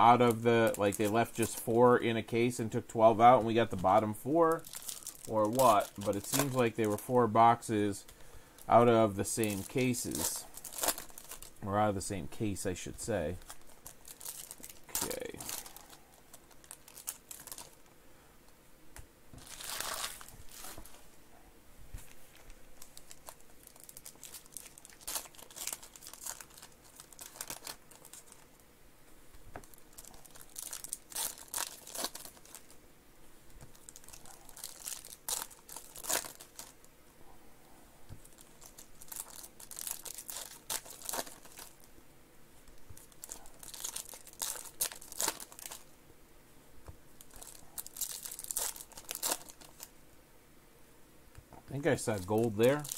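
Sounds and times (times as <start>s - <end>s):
plastic foil wrappers crinkling: 0.0s - 17.9s, 19.4s - 21.0s, 22.2s - 28.6s, 29.6s - 32.8s, 33.6s - 36.8s, 38.2s - 41.9s, 42.6s - 45.9s, 47.2s - 49.9s, 51.8s - 52.9s.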